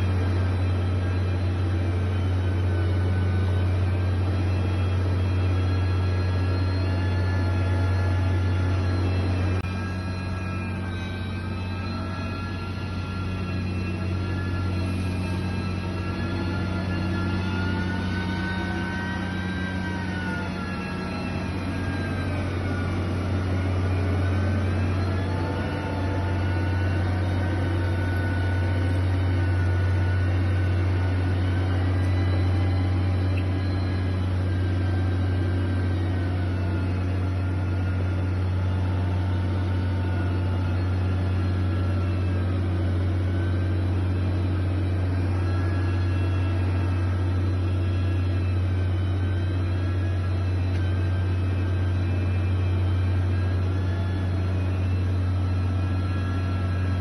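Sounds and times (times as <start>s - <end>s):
heavy machinery engine rumble: 0.0s - 57.0s
machinery whine: 0.0s - 57.0s.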